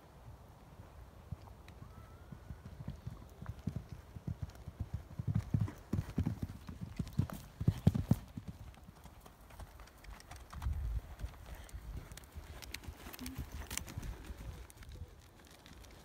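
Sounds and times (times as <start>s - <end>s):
horse hooves cantering on sand: 2.6s - 16.0s.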